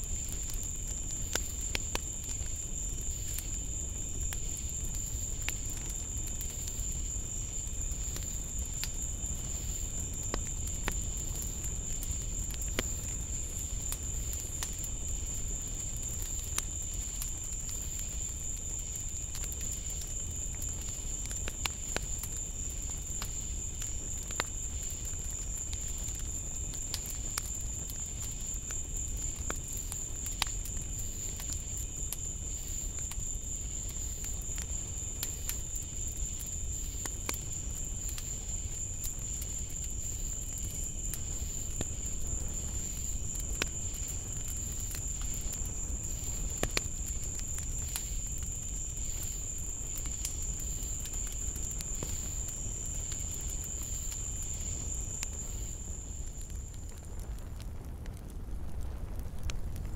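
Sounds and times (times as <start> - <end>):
insects trilling: 0.0 - 57.4.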